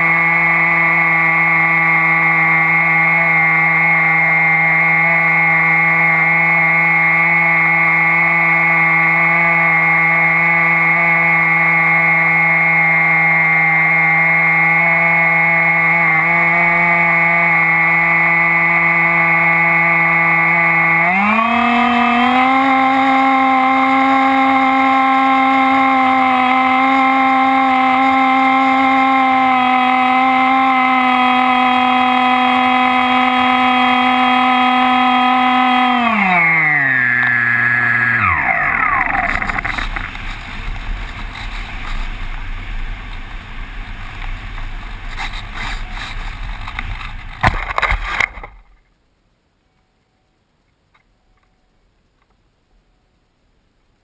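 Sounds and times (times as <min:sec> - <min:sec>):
electric motor and propeller whine: 0:00.0 - 0:48.5.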